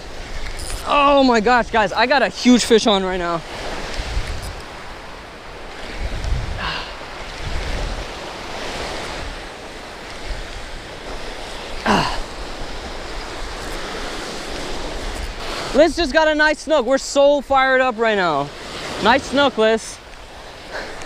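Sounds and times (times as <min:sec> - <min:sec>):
wind gusting over microphone: 0:00.0 - 0:17.6
small surf waves washing: 0:00.0 - 0:21.0.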